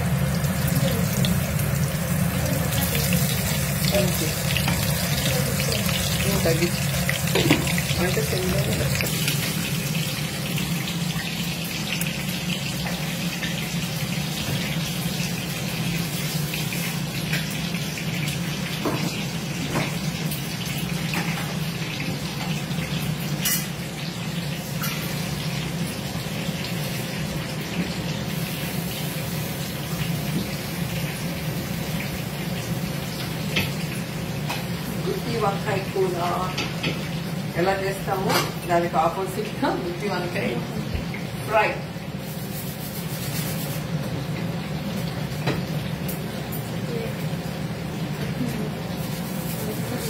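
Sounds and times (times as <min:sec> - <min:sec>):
hot oil sizzling: 0:00.0 - 0:50.0.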